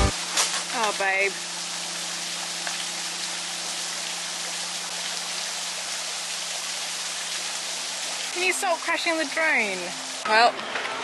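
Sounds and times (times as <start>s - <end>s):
waterfall splashing over rocks: 0.0s - 10.2s.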